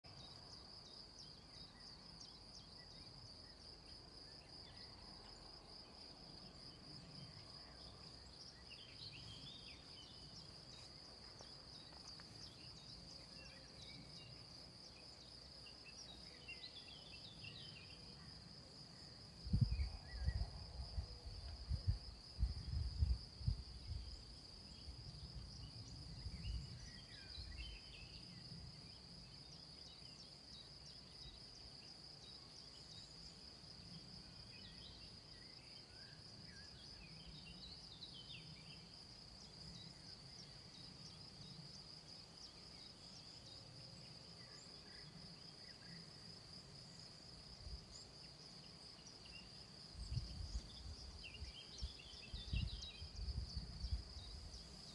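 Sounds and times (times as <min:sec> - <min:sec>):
insects trilling: 0:00.1 - 0:54.9.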